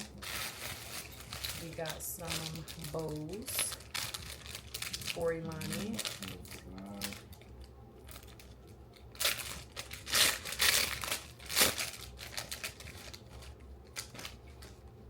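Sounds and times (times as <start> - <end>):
packaging crinkling and rustling: 0.0 - 14.9.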